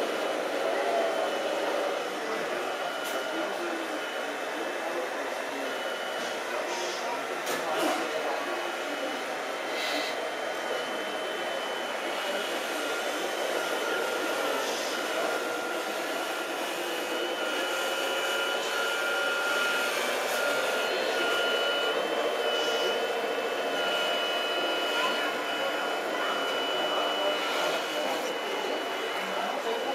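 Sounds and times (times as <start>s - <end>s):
electric motor and hydraulic pump whine: 0.0s - 29.9s.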